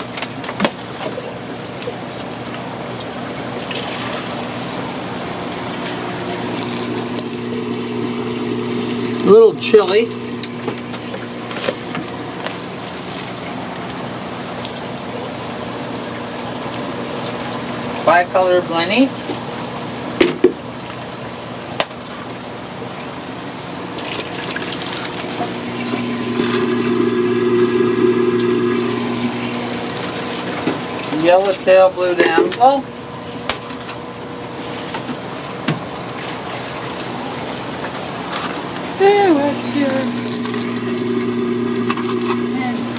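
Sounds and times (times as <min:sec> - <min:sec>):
aquarium pumps rushing and humming: 0:00.0 - 0:42.9.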